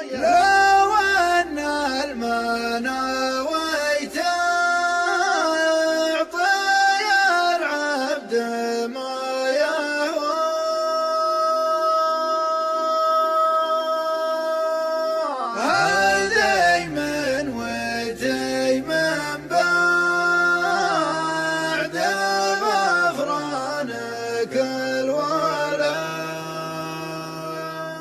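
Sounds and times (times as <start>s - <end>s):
man singing unaccompanied: 0.0s - 28.0s.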